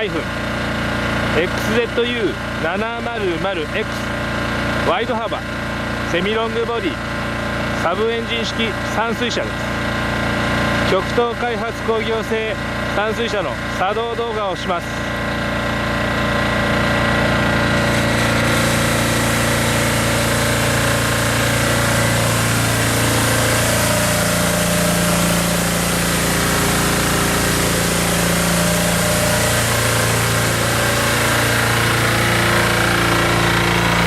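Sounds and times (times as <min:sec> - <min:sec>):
clattering diesel truck engine: 0:00.0 - 0:34.0.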